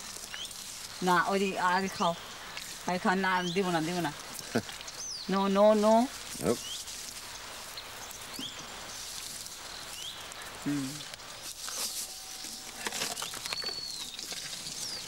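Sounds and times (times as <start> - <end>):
elephant eating rustling and crunching: 0.0 - 1.0, 2.0 - 5.1, 5.7 - 15.0.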